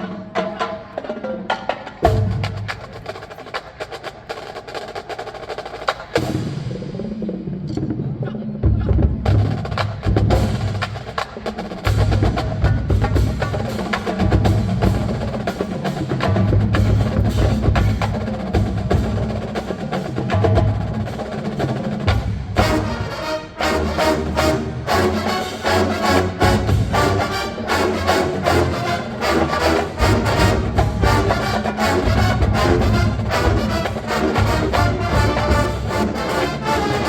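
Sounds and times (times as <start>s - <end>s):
marching band playing: 0.0s - 6.7s, 9.1s - 37.0s.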